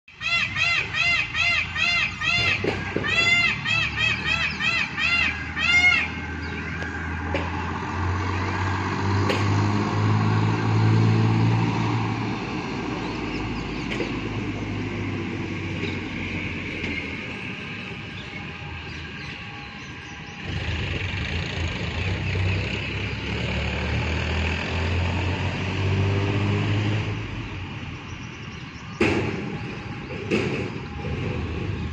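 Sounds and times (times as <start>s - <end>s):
outdoor background noise: 0.1s - 31.9s
vehicle engines running: 0.1s - 31.9s.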